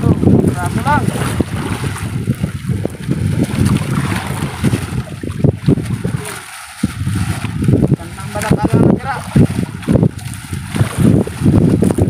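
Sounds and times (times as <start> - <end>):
knocks and splashes of net: 0.0 - 12.0
water washing against boat: 0.0 - 12.0
wind buffeting microphone: 0.0 - 12.0.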